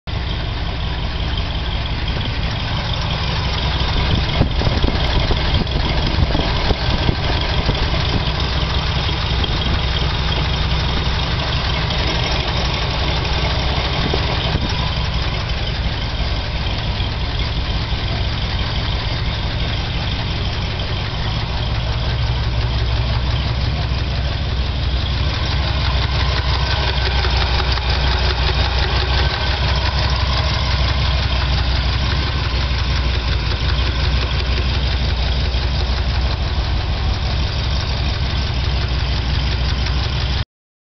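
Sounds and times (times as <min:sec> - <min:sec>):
car engine idling: 0:00.0 - 0:40.4
engine ticking: 0:00.0 - 0:40.4.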